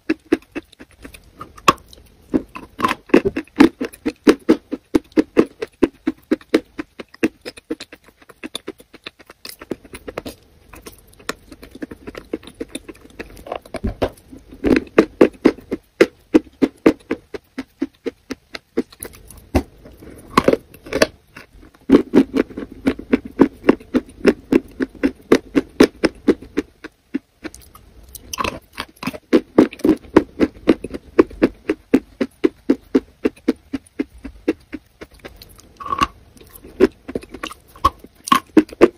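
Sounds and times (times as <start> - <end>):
wet chewing and biting: 0.0 - 38.9.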